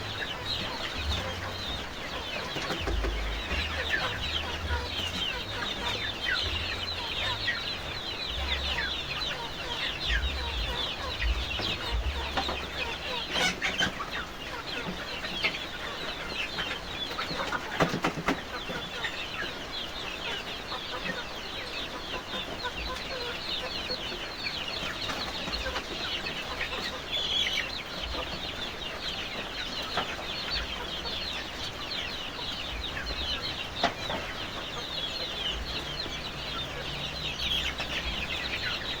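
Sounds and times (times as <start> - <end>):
chickens clucking and calling: 0.0 - 39.0.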